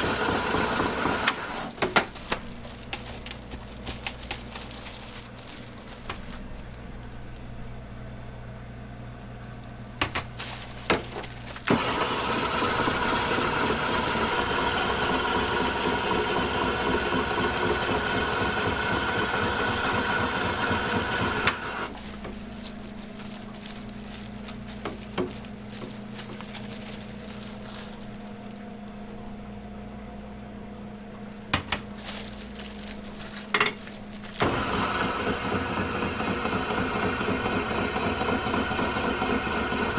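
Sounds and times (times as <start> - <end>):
ice shaving machine running: 0.0 - 8.1, 9.1 - 29.3, 31.5 - 39.9.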